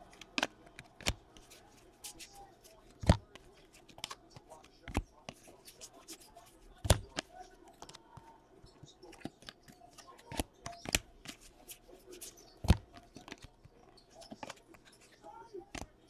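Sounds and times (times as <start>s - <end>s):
cards rustling: 0.0s - 16.0s.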